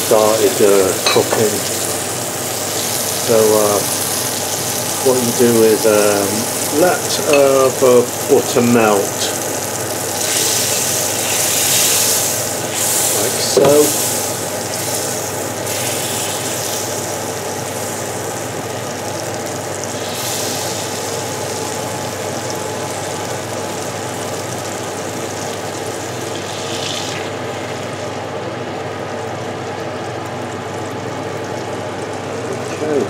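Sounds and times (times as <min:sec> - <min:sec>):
butter sizzling in a pan: 0:00.0 - 0:32.6.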